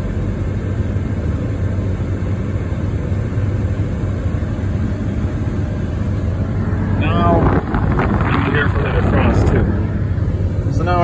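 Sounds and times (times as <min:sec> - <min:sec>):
heater blower fan rushing air: 0:01.9 - 0:11.0.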